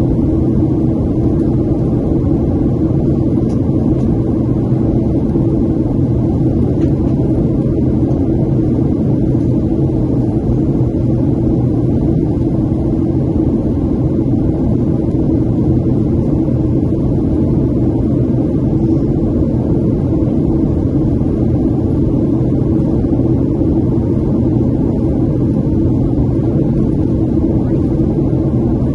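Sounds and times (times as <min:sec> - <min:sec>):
jet engine drone in cabin: 0:00.0 - 0:28.9
rushing airflow: 0:00.0 - 0:28.9
steady hums: 0:00.0 - 0:28.9.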